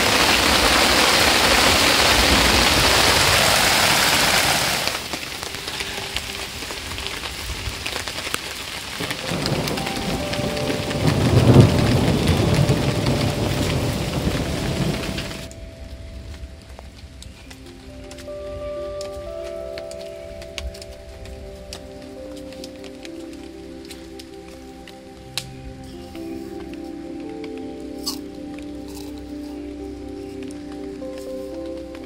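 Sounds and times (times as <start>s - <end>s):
thunder rumbling: 0.0s - 29.0s
heavy rain and hail: 0.0s - 32.0s.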